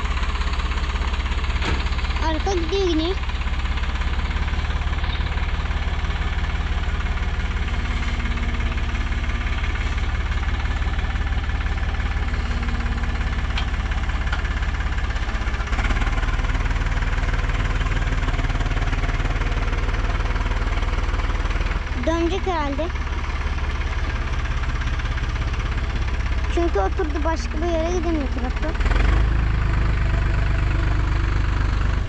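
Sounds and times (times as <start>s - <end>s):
tractor diesel engine chugging: 0.0s - 32.0s.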